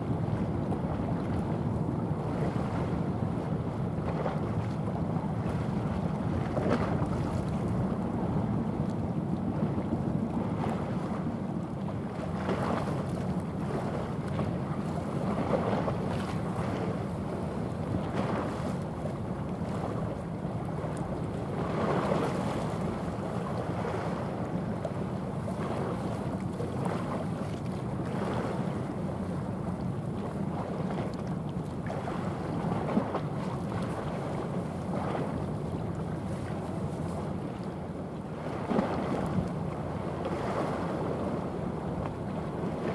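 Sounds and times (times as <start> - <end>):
choppy sea water: 0.0 - 42.9.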